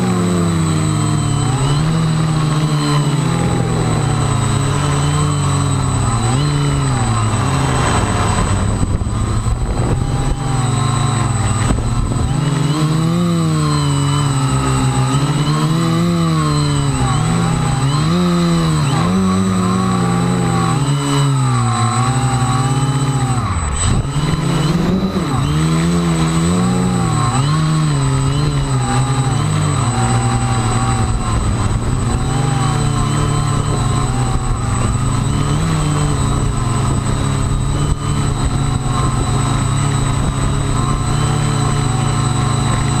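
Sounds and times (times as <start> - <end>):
quadcopter motors and propellers whining: 0.0 - 43.0.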